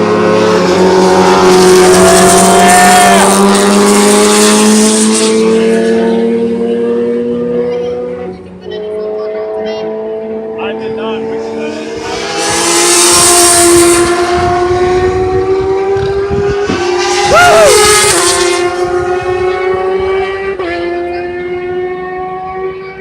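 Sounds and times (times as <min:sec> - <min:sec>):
motorcycles passing by: 0:00.0 - 0:23.0
racing motorcycle engines: 0:00.0 - 0:23.0.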